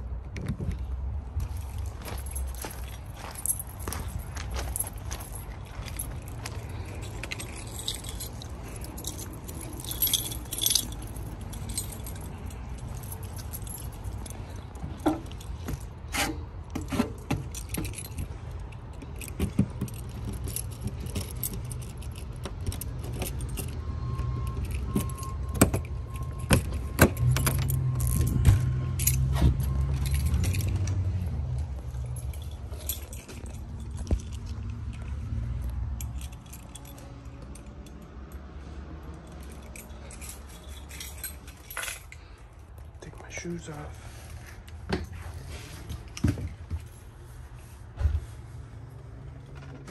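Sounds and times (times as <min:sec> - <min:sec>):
keys jangling: 0:01.4 - 0:43.6.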